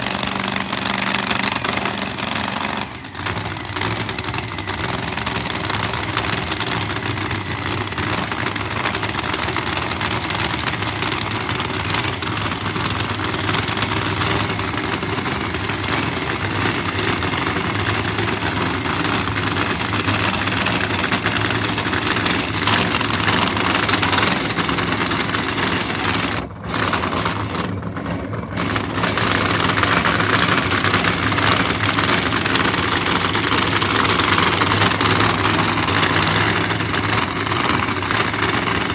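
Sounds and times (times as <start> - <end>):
drag racing engine idling: 0.0 - 38.9.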